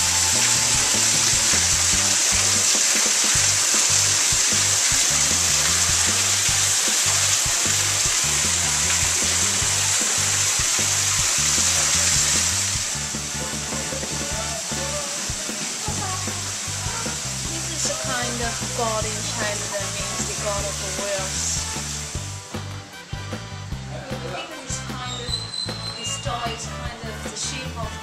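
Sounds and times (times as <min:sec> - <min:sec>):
loud steady hiss: 0:00.0 - 0:25.1
background music with low notes: 0:00.0 - 0:28.0.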